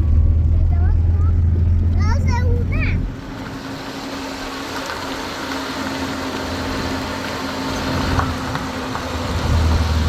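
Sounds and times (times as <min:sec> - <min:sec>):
motor humming and rumbling: 0:00.0 - 0:10.0.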